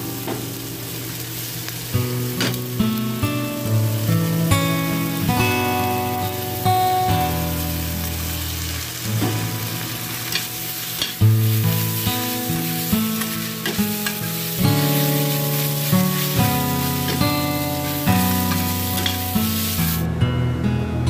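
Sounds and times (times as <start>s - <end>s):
food sizzling in a pan: 0.0s - 20.1s.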